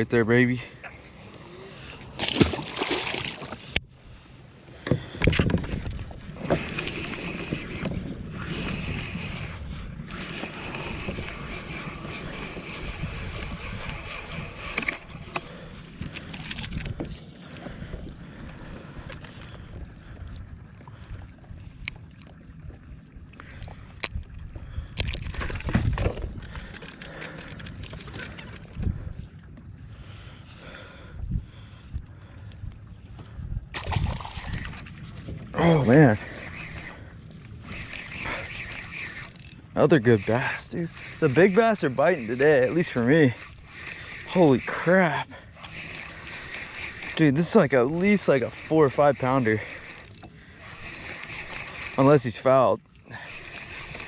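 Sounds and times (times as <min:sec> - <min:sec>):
water sloshing against kayak: 0:00.7 - 0:54.0.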